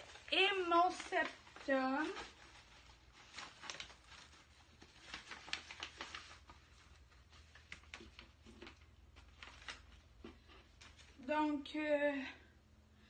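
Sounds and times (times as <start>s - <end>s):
envelope and packets crinkling: 0.0s - 11.2s.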